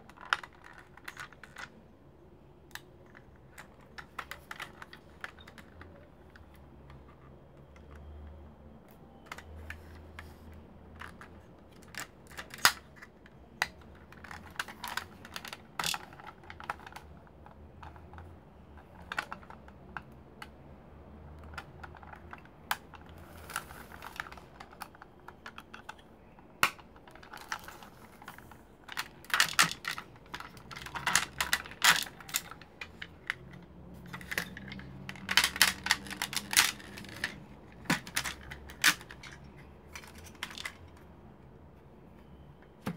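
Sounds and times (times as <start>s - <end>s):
plastic toy parts clicking: 0.0s - 1.8s, 2.7s - 8.3s, 9.1s - 20.5s, 21.3s - 41.1s.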